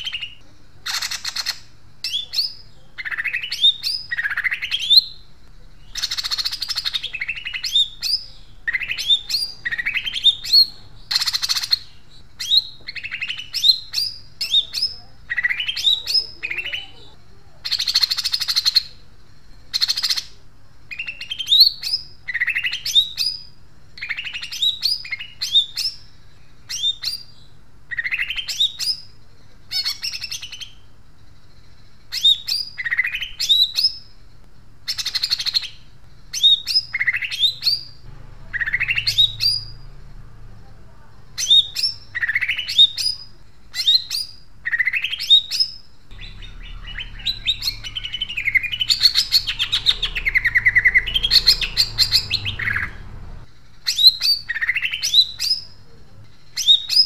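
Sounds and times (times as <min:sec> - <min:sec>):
songbird chattering song: 0:00.0 - 0:57.0.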